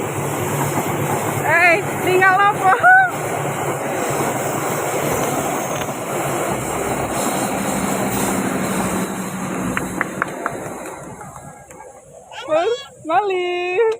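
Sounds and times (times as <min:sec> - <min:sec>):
train wheels rumbling on rails: 0:00.0 - 0:12.3.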